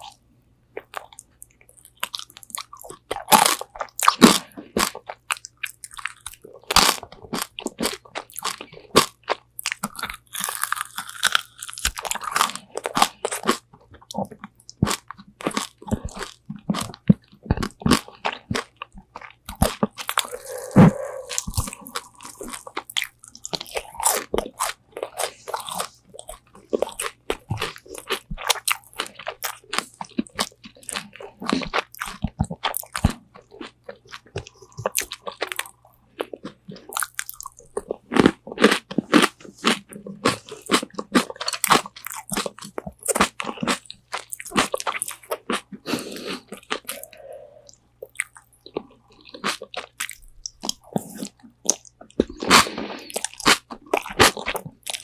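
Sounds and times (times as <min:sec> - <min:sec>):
crunchy fried chicken chewing: 0:00.8 - 0:55.0.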